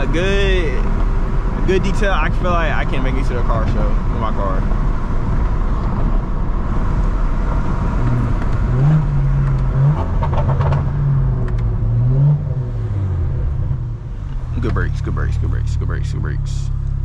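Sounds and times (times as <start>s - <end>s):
car engine accelerating: 0.0s - 17.0s
exhaust crackles: 0.0s - 17.0s.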